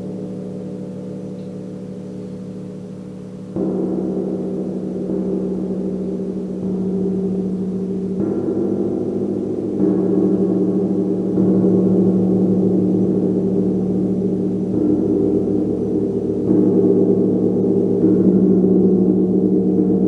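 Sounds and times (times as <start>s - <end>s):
gong humming tones: 0.0s - 20.0s.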